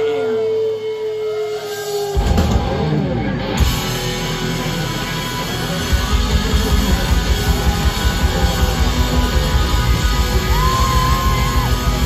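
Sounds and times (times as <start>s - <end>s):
rock band playing loud: 0.0s - 12.0s
drum kit: 2.2s - 12.0s.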